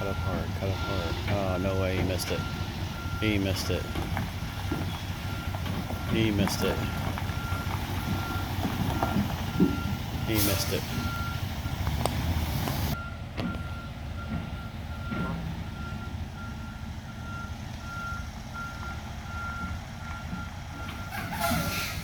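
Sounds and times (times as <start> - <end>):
truck engine rumbling: 0.0 - 22.0
truck reversing alarm beeping: 0.0 - 22.0.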